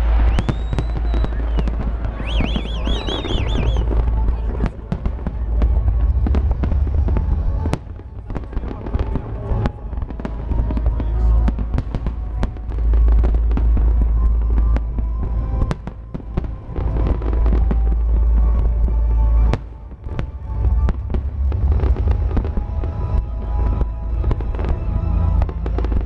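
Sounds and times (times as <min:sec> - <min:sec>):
deep continuous rumble: 0:00.0 - 0:26.0
firework crackles: 0:00.0 - 0:26.0.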